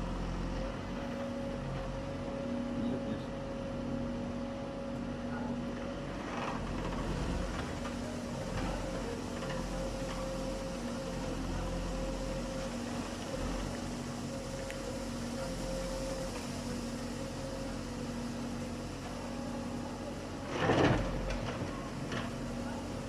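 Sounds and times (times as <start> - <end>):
heavy machinery engine humming: 0.0 - 23.0.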